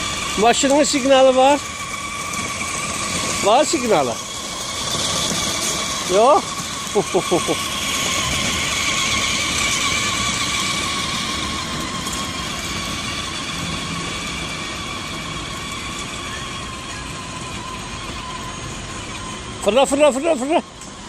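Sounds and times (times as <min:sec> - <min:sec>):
plastic wheels rumbling over paving: 0:00.0 - 0:21.0
toy car motors whining: 0:00.0 - 0:21.0.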